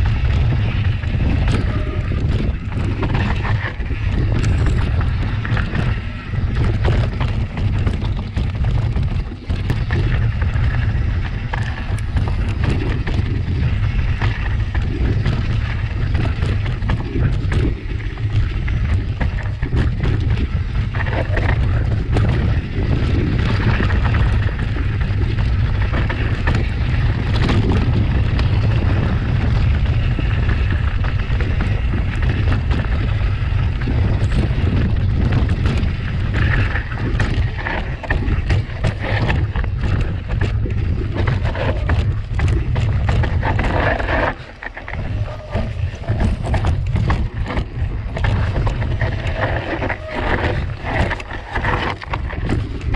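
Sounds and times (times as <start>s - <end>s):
bike clattering over trail: 0.0s - 52.9s
heavy rumble: 0.0s - 52.9s
wind buffeting microphone: 0.0s - 52.9s.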